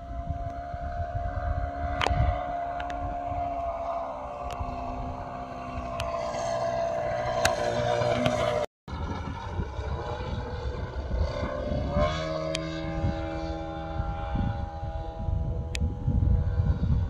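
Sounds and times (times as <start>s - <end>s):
model plane engine drone: 0.0s - 17.0s
wind buffeting microphone: 0.0s - 17.0s.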